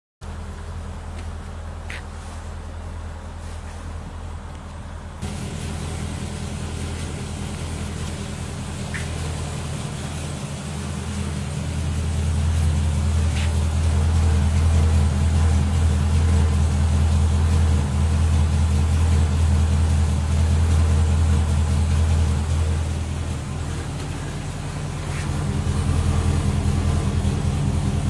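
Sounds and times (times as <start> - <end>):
car engine idling: 0.2 - 28.0.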